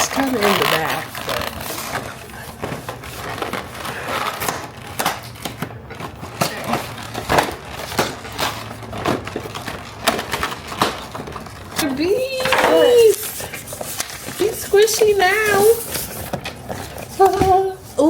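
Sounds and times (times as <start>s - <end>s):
packaging crunching and crackling: 0.0s - 18.0s.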